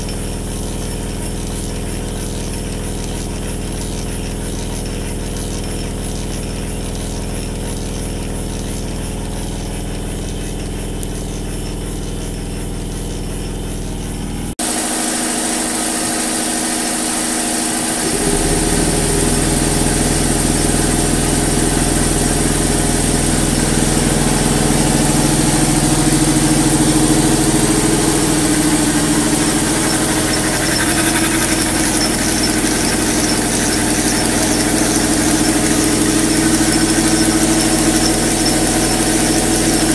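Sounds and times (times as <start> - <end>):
model steam engine running: 0.0 - 39.9.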